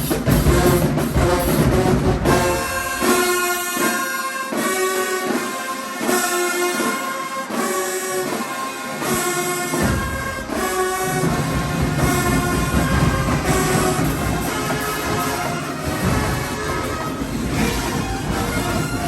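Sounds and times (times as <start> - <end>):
brass band chord blasts: 0.0 - 19.0.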